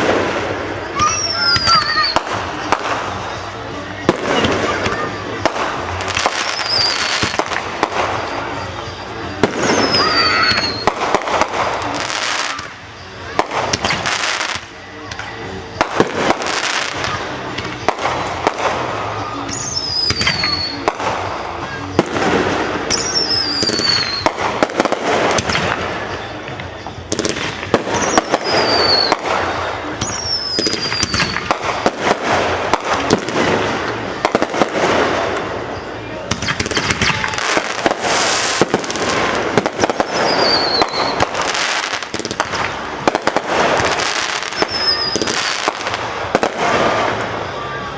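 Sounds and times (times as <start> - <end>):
firework bangs and crackling: 0.0 - 47.9
high firework whistles: 0.0 - 47.9.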